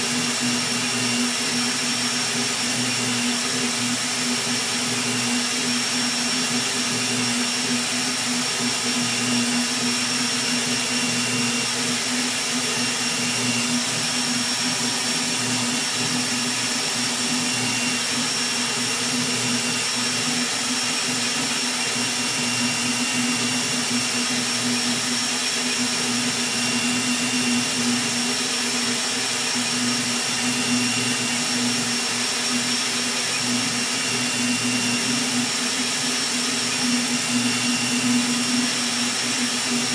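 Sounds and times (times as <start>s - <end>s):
printer fan and motors whirring: 0.0s - 39.9s.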